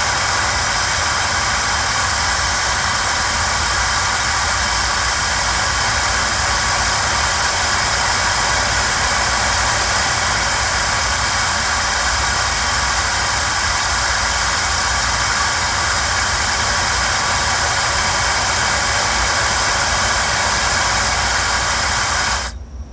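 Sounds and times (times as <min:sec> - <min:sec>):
hair dryer blowing air: 0:00.0 - 0:22.6.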